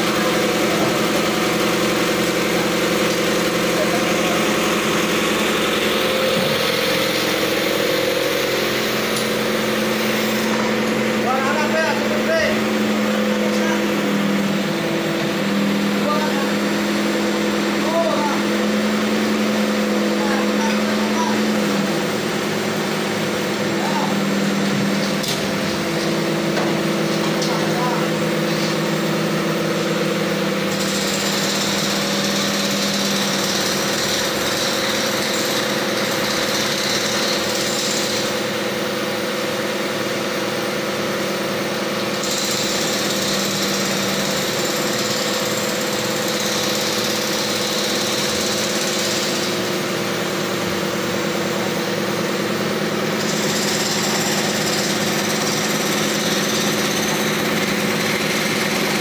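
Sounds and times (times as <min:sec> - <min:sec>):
crane engine running: 0:00.0 - 0:59.0.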